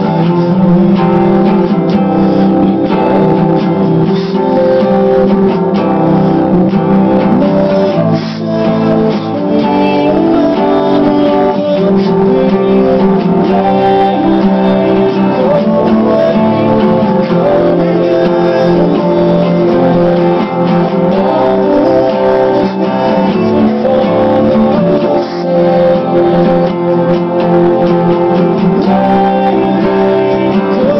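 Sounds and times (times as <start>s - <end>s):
acoustic guitar playing: 0.0s - 30.9s.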